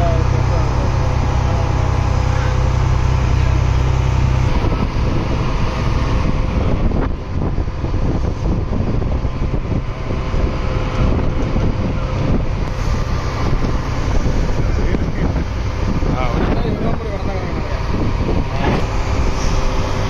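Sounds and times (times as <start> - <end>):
boat engine running: 0.0 - 20.0
wind buffeting microphone: 0.0 - 20.0.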